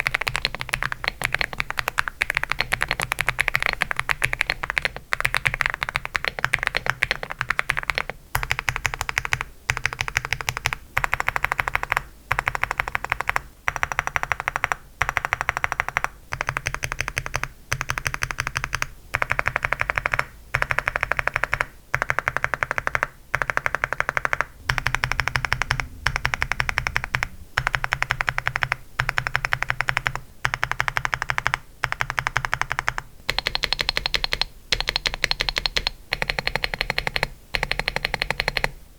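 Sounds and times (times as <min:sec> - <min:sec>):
mechanical keyboard typing: 0:00.0 - 0:38.8.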